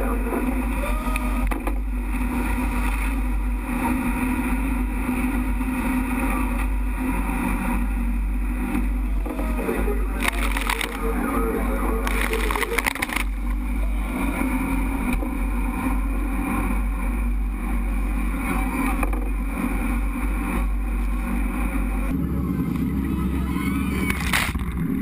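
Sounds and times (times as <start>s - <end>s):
boat rumble with rushing water: 0.0s - 25.0s.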